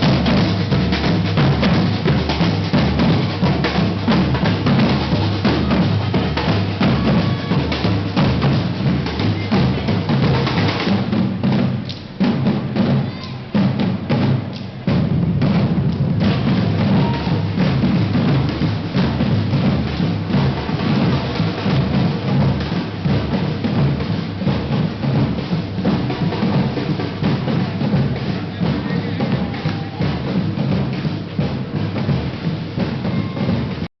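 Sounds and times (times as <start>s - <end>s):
bass drum beats: 0.0s - 33.9s
rapid snare strokes: 0.0s - 33.9s
street drums playing: 0.0s - 33.9s.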